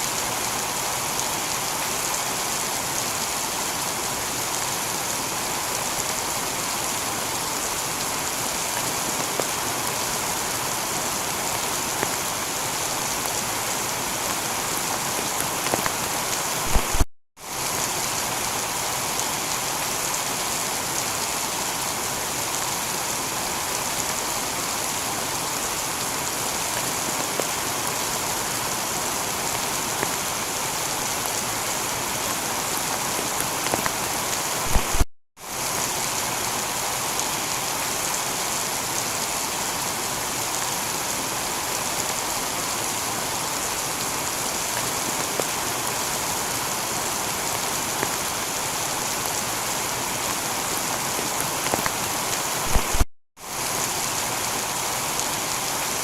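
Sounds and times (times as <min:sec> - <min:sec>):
heavy rain on a tiled roof: 0:00.0 - 0:56.0
individual raindrops: 0:00.2 - 0:21.3, 0:22.2 - 0:38.0, 0:39.1 - 0:55.8.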